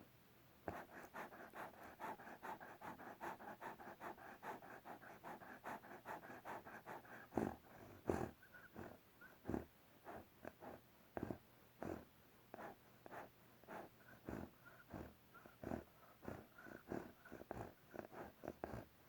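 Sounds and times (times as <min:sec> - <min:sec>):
animal snoring: 0:00.7 - 0:18.9.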